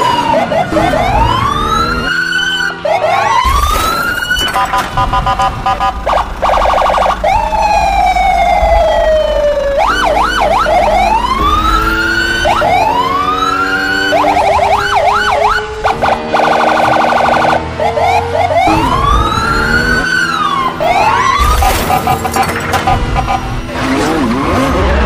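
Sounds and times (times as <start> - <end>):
electronic police siren: 0.0 - 25.0.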